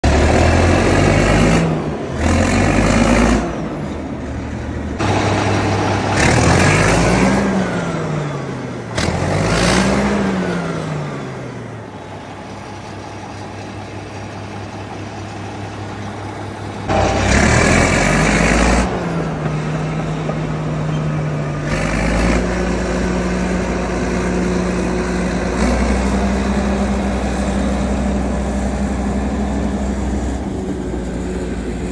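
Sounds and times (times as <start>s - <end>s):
bulldozer diesel engine revving: 0.0s - 31.9s.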